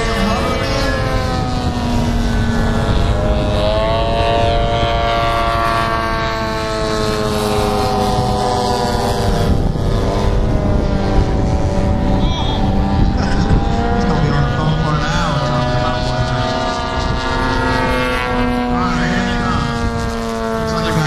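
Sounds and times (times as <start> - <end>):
model airplane engines droning: 0.0 - 21.0.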